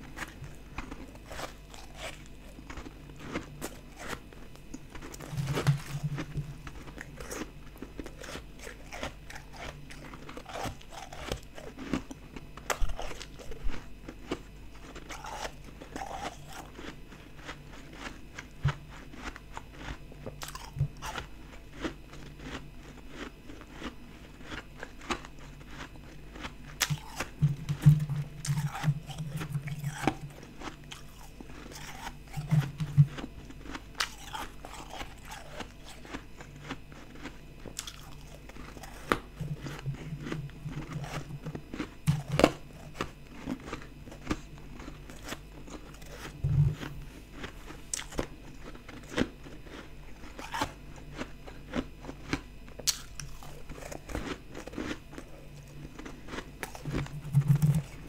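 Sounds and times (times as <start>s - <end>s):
person chewing crunchy ice: 0.0s - 58.0s.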